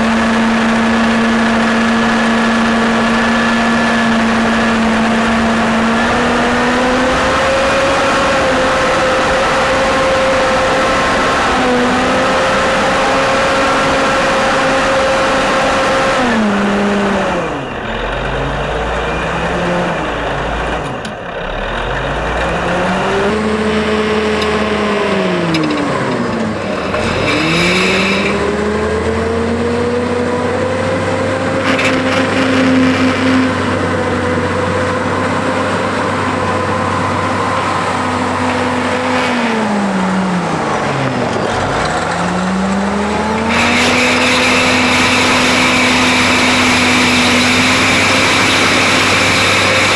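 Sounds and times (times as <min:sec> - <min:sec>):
wheel loader diesel engine revving: 0:00.0 - 0:49.9.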